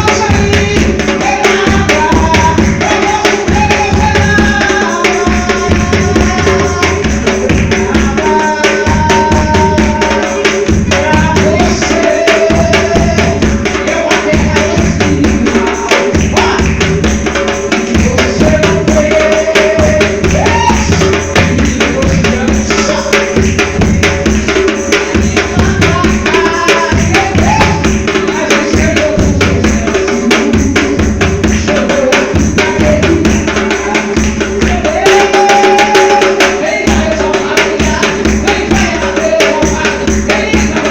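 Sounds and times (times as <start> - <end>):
bass drum keeping the beat: 0.0 - 40.9.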